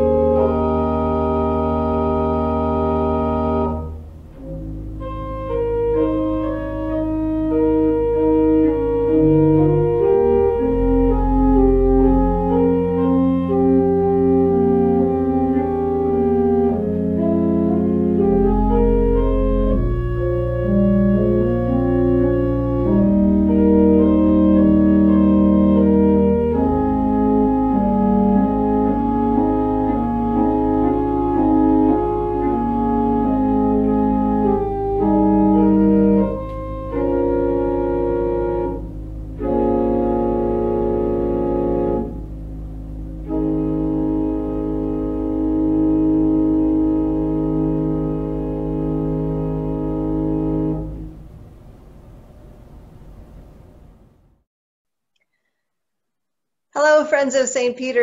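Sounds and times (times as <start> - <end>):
church organ playing: 0.0 - 53.3.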